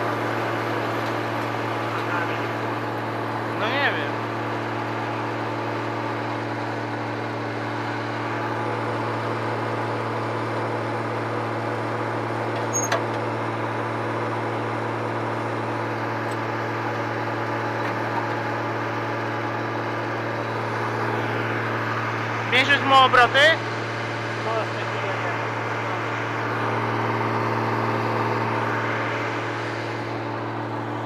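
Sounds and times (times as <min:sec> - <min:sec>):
diesel engine running at high revs: 0:00.0 - 0:31.0.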